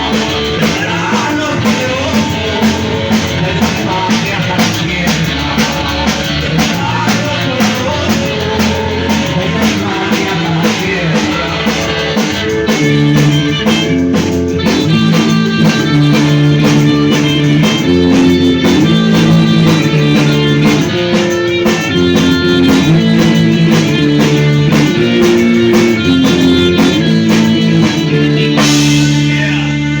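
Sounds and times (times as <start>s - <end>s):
distorted electric guitar chords: 0.0s - 30.0s
fast drumming: 0.0s - 30.0s.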